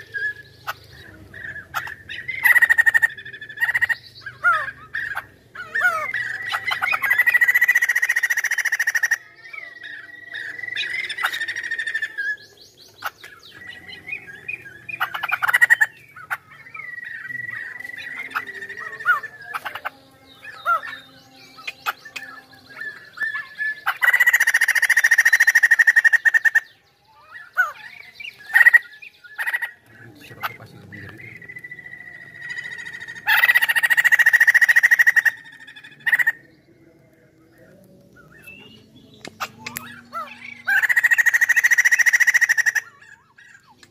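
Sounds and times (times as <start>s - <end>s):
bird fast chattering calls: 0.0s - 36.6s, 38.4s - 43.9s.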